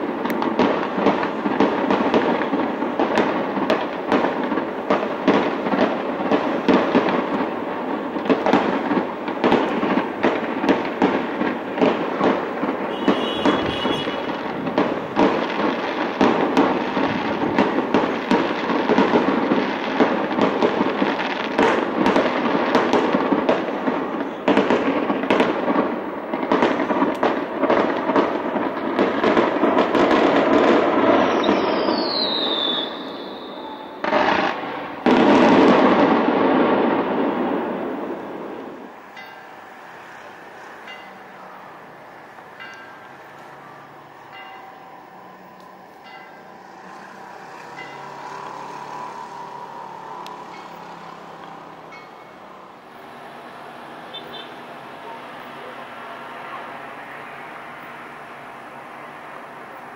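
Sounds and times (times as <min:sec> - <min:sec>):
fireworks bangs and crackles: 0:00.0 - 0:59.9
falling firework whistle: 0:08.3 - 0:23.6, 0:24.2 - 0:59.9.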